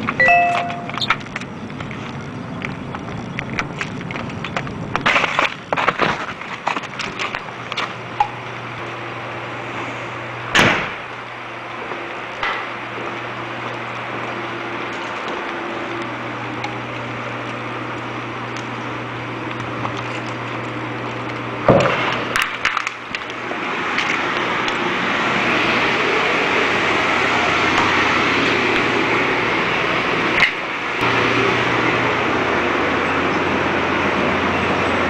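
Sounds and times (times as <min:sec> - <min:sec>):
fan rushing noise: 0:00.0 - 0:35.0
mechanical hum: 0:00.0 - 0:35.0.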